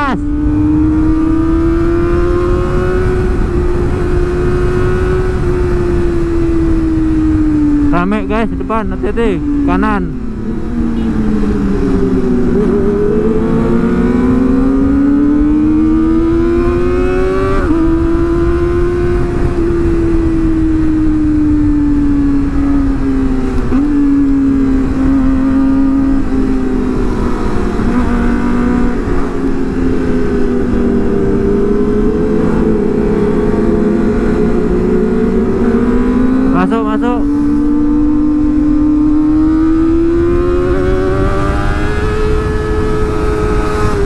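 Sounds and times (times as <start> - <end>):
motorcycle engine at high revs: 0.0 - 44.0
wind noise on microphone: 0.0 - 44.0.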